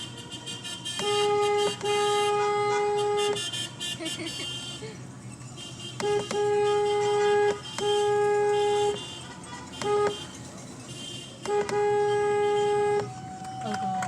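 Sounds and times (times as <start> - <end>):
car horn honking: 0.0 - 4.9, 5.6 - 14.0.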